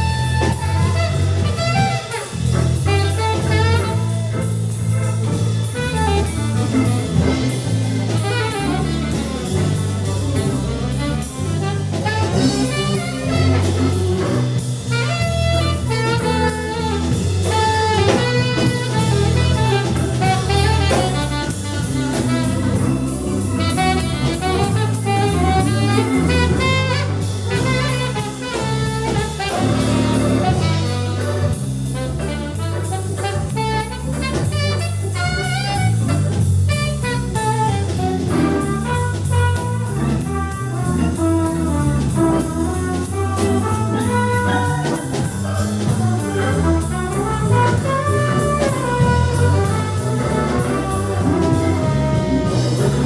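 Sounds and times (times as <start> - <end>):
bass line: 0.0 - 53.0
drum kit with cymbals: 0.0 - 53.0
saxophone: 0.0 - 53.0
trumpet: 0.0 - 53.0.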